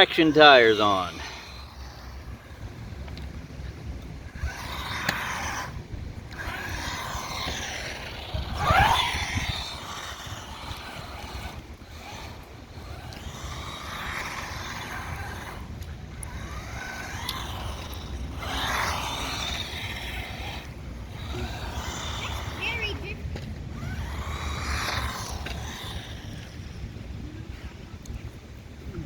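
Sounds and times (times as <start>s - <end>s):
electric motor whining: 0.0s - 28.4s.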